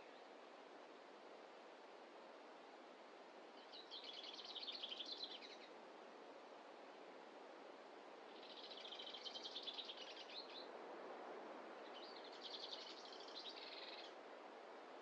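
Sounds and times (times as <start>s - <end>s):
faint forest ambience hiss: 0.0s - 15.0s.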